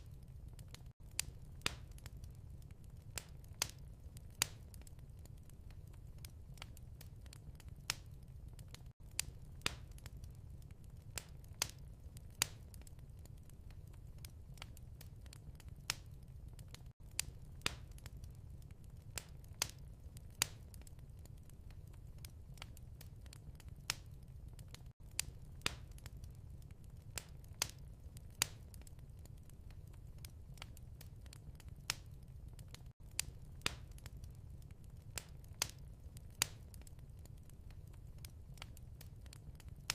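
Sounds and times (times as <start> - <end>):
fire popping and snapping: 0.0 - 39.9
low rumble of fire: 0.0 - 39.9.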